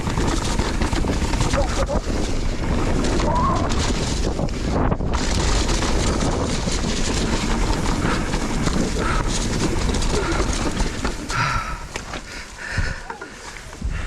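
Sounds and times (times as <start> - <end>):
bike chain and frame rattling: 0.0 - 14.0
tyres on rough ground: 0.0 - 14.0
wind buffeting microphone: 0.0 - 14.0.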